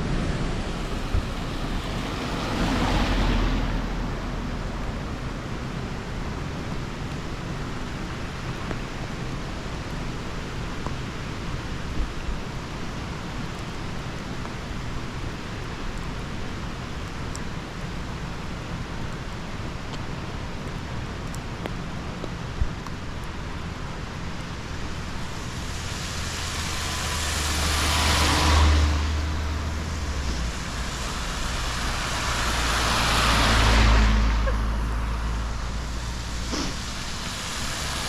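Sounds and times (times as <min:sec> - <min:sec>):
road vehicles driving past: 0:00.0 - 0:19.4, 0:23.2 - 0:38.0
steady background hiss: 0:04.2 - 0:34.0, 0:34.8 - 0:38.0.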